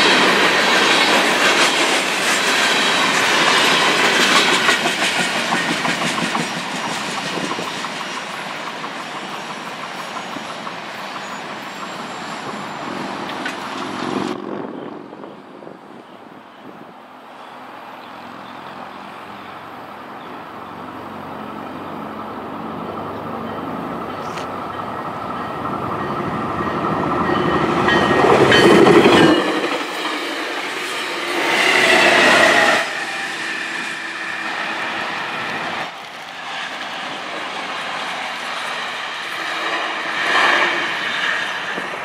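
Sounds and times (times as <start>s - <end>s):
train wheels rumbling on rails: 0.0s - 17.0s, 20.2s - 42.0s
diesel locomotive passing: 0.0s - 42.0s.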